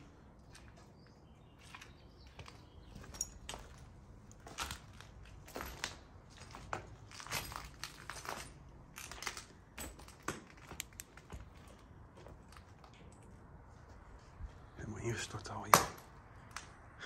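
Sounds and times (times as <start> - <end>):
footsteps crunching over rubble: 0.0 - 14.8.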